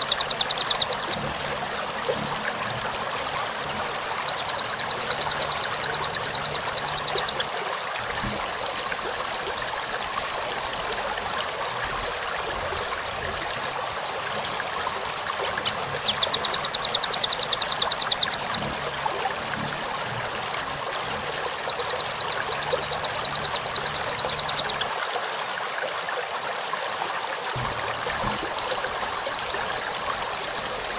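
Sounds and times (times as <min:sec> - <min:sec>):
bird trilling high sharp chips: 0:00.0 - 0:24.9, 0:27.6 - 0:30.9.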